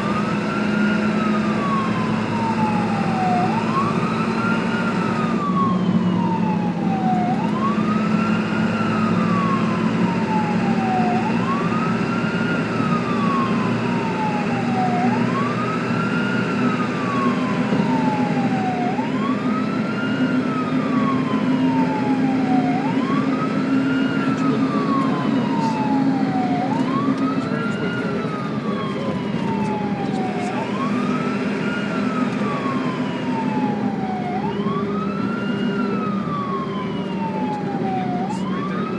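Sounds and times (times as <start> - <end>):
ambulance siren wailing: 0.0 - 38.9.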